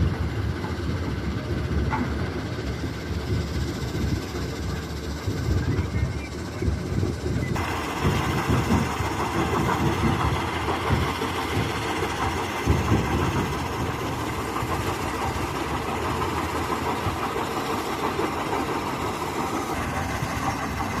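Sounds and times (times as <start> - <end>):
engine drone: 0.0 - 21.0
low rumble and clatter: 0.0 - 21.0.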